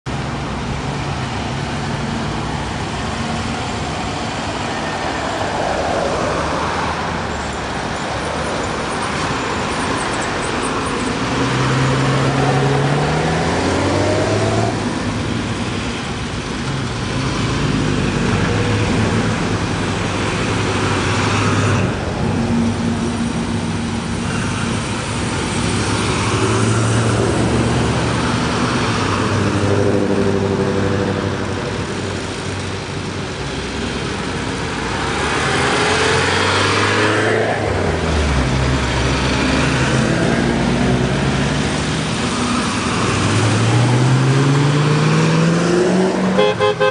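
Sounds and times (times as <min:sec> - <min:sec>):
road and tyre noise: 0:00.0 - 0:46.9
cars driving past: 0:00.1 - 0:46.9.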